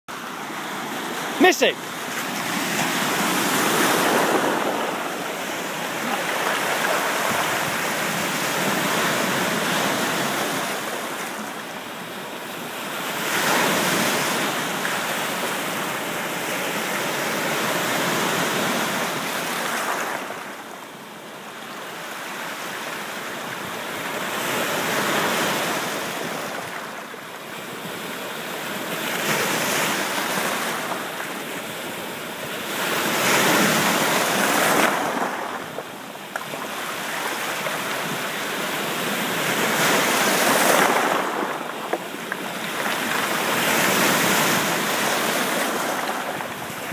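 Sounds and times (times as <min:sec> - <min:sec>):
waves breaking: 0:00.1 - 0:20.8, 0:21.7 - 0:46.9.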